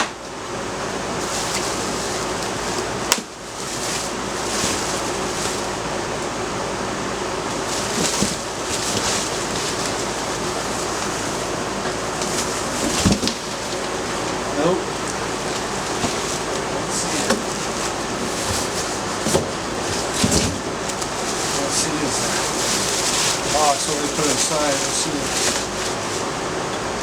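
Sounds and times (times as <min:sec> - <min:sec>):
air conditioner fan running: 0:00.0 - 0:27.0
light handling rustles: 0:01.2 - 0:06.3, 0:07.4 - 0:26.9.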